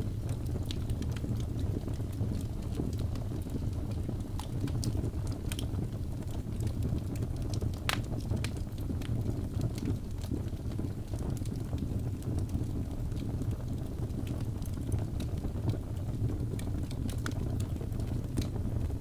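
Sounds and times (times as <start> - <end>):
logs crackling and popping: 0.0 - 19.0
low roar of flames: 0.0 - 19.0.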